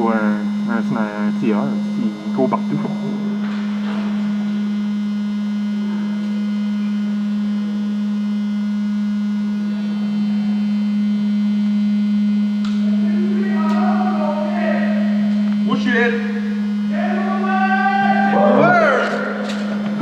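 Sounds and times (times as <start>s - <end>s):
small fan humming: 0.0s - 20.0s.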